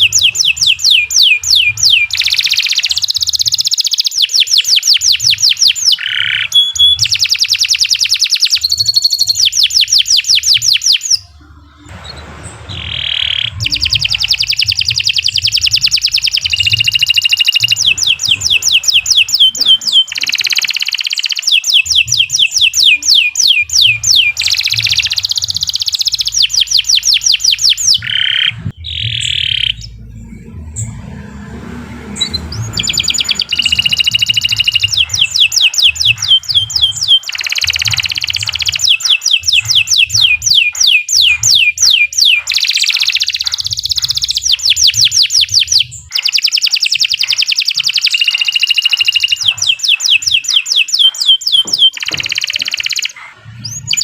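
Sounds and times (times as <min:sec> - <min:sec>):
canary singing trills: 0:00.0 - 0:31.0, 0:32.1 - 0:54.0.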